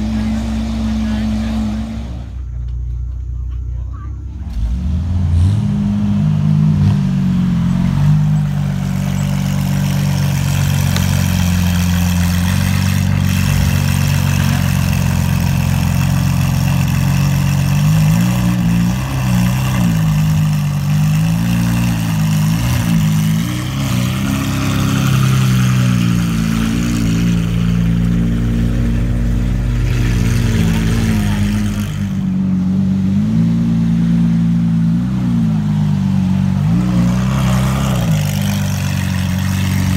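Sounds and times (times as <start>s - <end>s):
car engine running at low revs: 0.0s - 39.9s.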